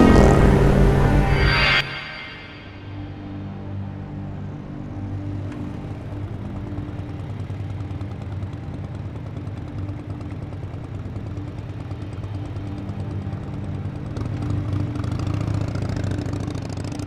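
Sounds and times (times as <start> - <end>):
motorcycle engines idling: 2.9 - 17.0.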